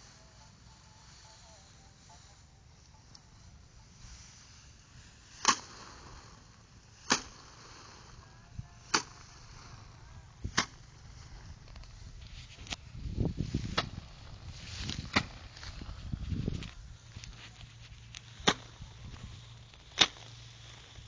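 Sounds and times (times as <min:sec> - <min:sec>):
rice sheaves whacking frame: 0:00.0 - 0:21.0.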